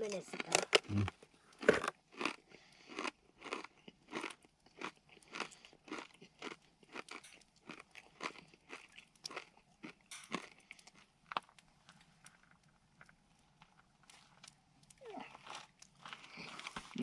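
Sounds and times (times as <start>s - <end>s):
person chewing crunchy bacon: 0.2s - 17.0s.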